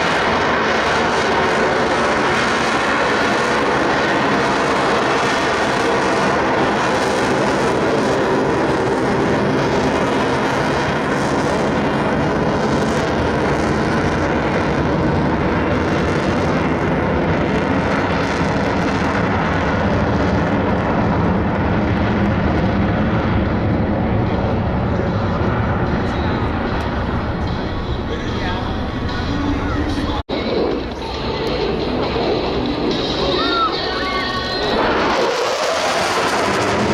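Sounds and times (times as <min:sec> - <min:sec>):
jet roar: 0:00.0 - 0:36.9.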